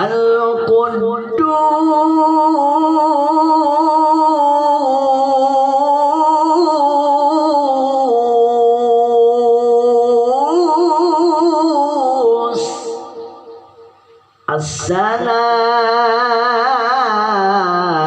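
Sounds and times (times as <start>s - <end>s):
man chanting with vibrato: 0.0s - 18.0s.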